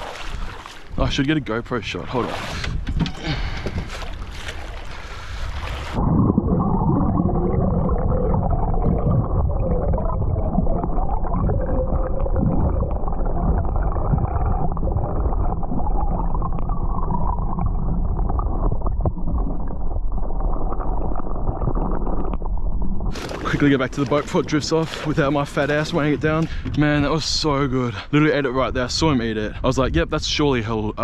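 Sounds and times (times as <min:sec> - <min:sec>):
underwater water rumbling and gurgling: 0:02.0 - 0:27.7.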